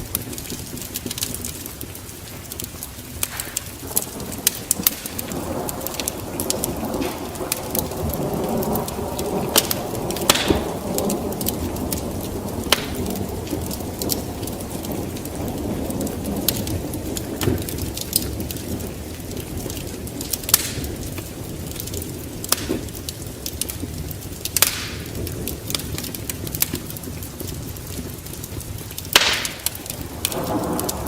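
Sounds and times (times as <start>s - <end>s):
steady rain: 0.0s - 31.0s
wood fire crackling: 0.0s - 31.0s
low roll of thunder: 3.6s - 31.0s.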